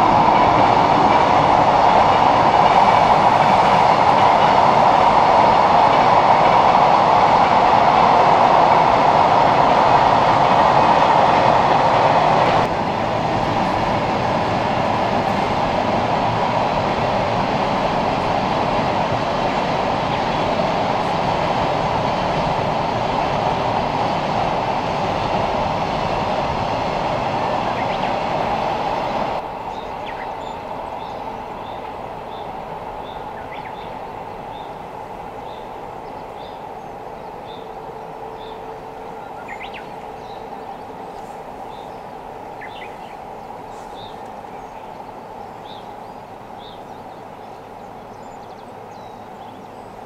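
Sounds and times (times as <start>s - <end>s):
freight train rumbling: 0.0s - 50.0s.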